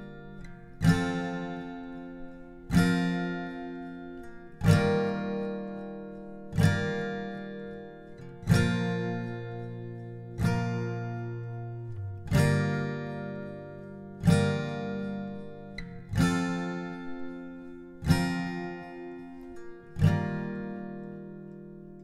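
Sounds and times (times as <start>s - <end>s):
strummed acoustic guitar chords: 0.0s - 22.0s.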